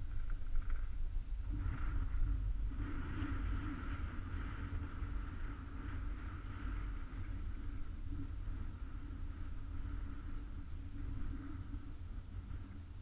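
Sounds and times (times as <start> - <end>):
faint wavering hum: 0.0 - 13.0
muffled wind buffeting: 0.0 - 13.0.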